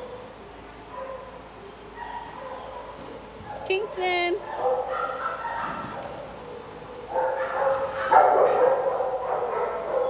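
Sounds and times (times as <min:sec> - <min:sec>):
dogs barking: 0:00.0 - 0:10.0.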